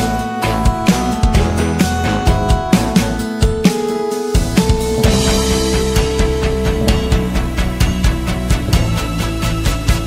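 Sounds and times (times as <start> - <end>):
sustained instrument notes: 0.0 - 9.1
steady drum beat: 0.0 - 10.0.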